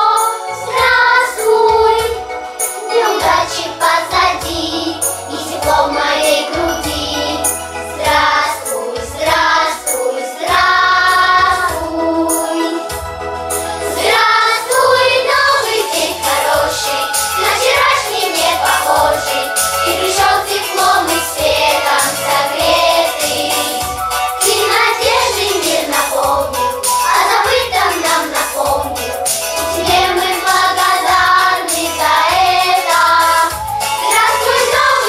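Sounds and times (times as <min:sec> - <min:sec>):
children's choir singing: 0:00.0 - 0:12.9, 0:13.5 - 0:35.0
instrumental accompaniment with beat: 0:00.0 - 0:35.0.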